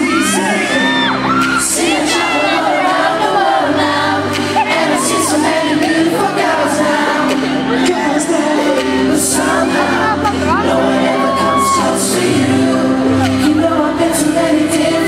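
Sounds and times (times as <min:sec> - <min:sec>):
crowd cheering and screaming: 0:00.0 - 0:15.0
live pop band: 0:00.0 - 0:15.0
man singing into microphone: 0:00.0 - 0:15.0.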